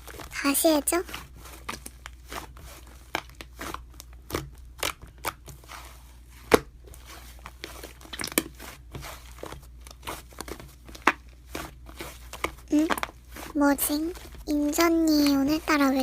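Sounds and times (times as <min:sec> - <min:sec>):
slime squished by hand: 0:00.0 - 0:16.0.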